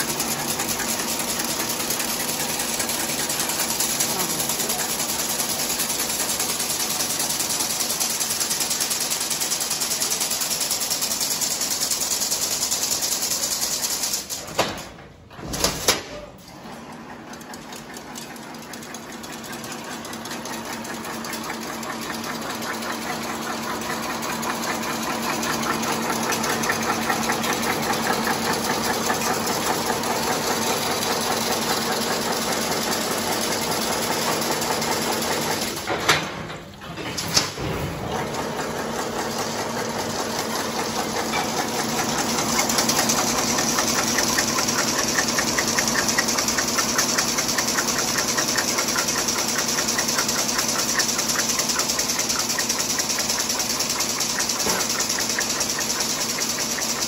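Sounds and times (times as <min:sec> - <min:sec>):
machine clicks: 0:00.0 - 0:57.0
weaving machine rattling: 0:00.0 - 0:57.0.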